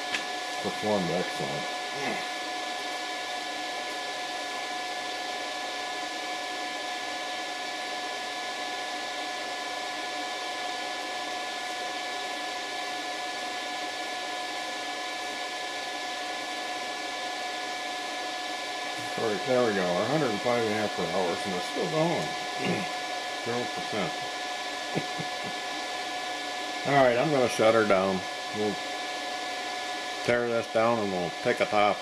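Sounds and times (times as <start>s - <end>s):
high-pitched whine: 0.0s - 3.9s, 4.5s - 32.0s
fan whirring: 0.0s - 32.0s.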